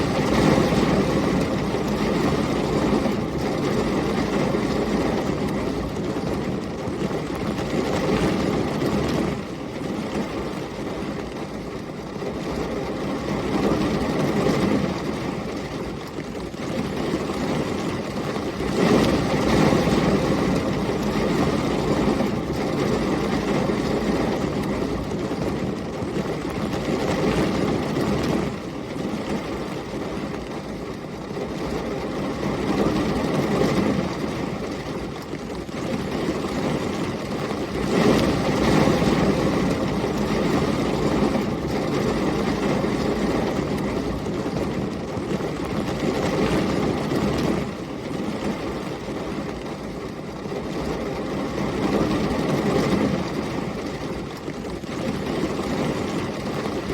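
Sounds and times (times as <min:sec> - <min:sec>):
heavy rain: 0:00.0 - 0:56.9
storm wind: 0:00.0 - 0:56.9.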